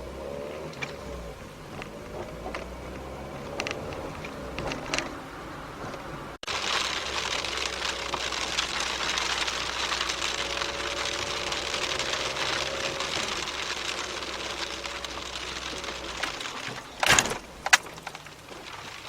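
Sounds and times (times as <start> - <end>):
car engine and road hum: 0.0 - 19.0
hissy road noise: 0.0 - 19.0.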